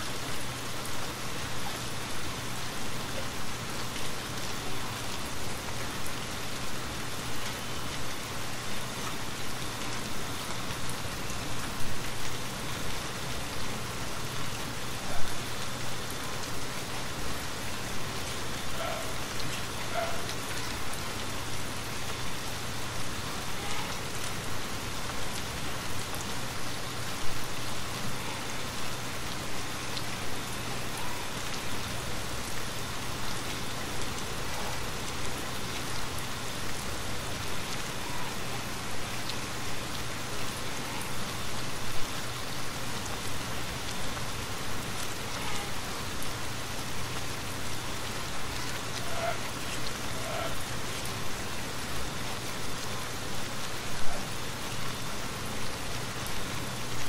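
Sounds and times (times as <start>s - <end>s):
rain on roof and windows: 0.0s - 57.0s.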